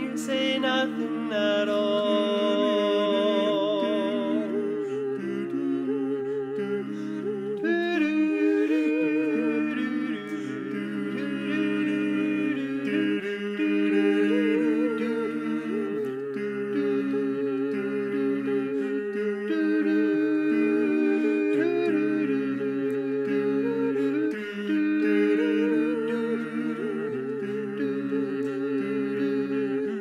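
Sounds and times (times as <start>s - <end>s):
vocal quartet singing in harmony: 0.0s - 30.0s.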